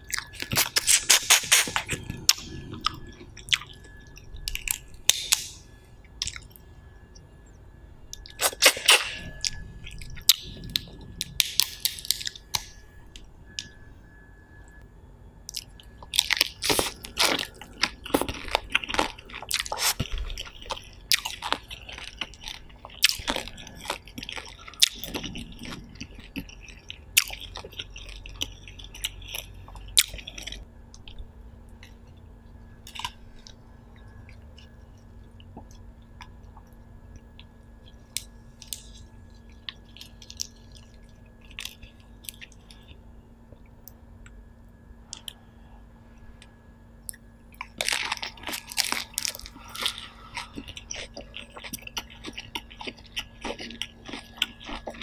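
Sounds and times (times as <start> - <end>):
person chewing food: 0.0 - 6.6, 8.1 - 13.8, 15.4 - 32.2, 32.8 - 44.4, 45.1 - 45.5, 46.4 - 55.0.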